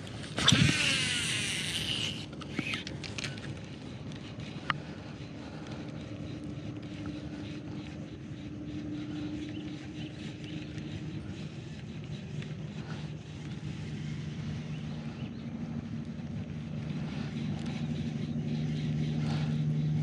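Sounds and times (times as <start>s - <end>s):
faint low hum: 0.0s - 20.0s
fishing reel spool whirring: 0.0s - 20.0s
light clicks and ticks: 1.8s - 20.0s.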